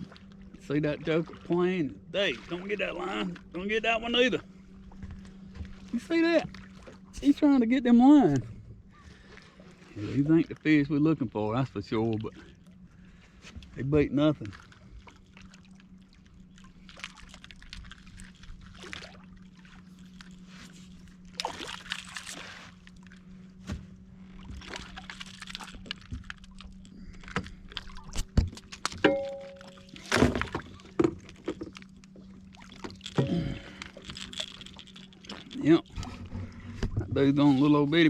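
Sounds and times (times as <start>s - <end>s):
steady low hum: 2.9s - 38.0s.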